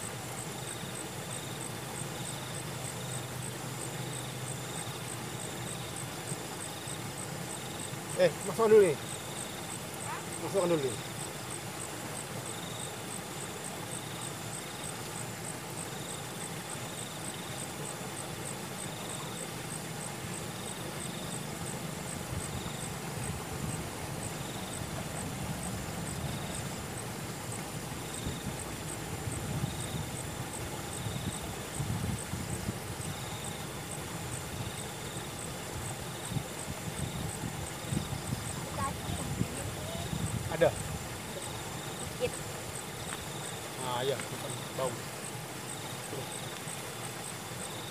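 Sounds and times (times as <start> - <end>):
insect chirping: 0.0 - 47.9
insect ticking regularly: 0.0 - 47.9
steady outdoor hiss: 0.0 - 47.9.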